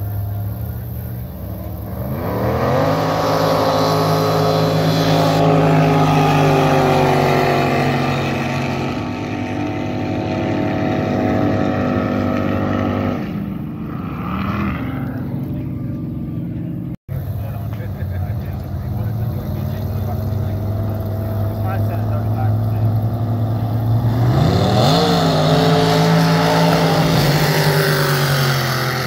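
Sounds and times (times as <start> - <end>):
jet boat engines accelerating: 0.0 - 29.0.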